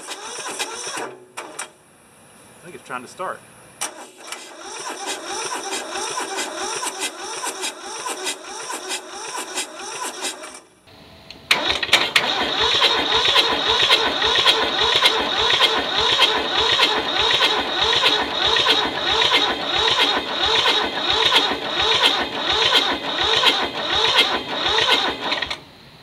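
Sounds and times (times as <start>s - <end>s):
diesel engine cranking: 0.0s - 1.8s, 3.8s - 25.7s.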